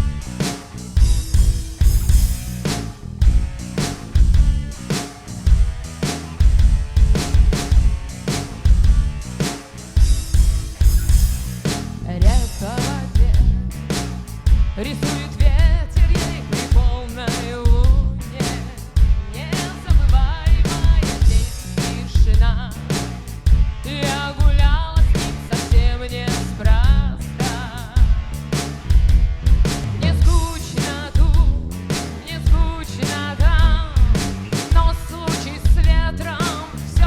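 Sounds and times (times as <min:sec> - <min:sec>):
drum kit steady beat: 0:00.0 - 0:37.0
rock band playing: 0:00.0 - 0:37.0.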